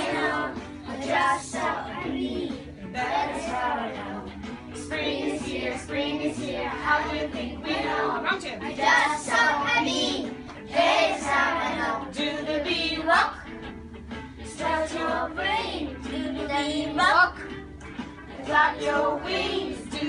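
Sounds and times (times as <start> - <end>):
young children singing: 0.0 - 13.5, 14.5 - 17.5, 18.3 - 20.0
recorded children's song: 0.0 - 20.0.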